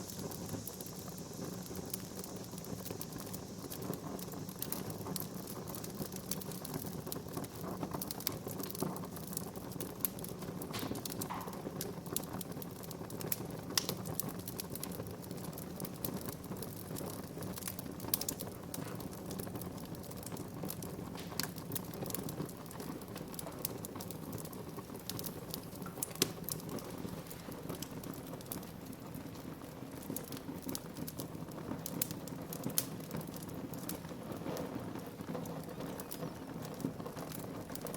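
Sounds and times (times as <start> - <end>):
fire popping and snapping: 0.0 - 37.9
low rush of flames: 0.0 - 37.9.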